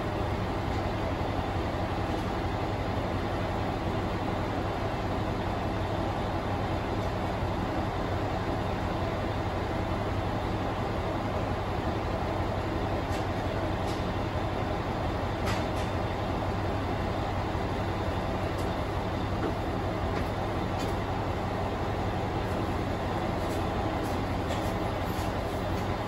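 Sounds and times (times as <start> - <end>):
diesel railcar engine idling: 0.0 - 26.0.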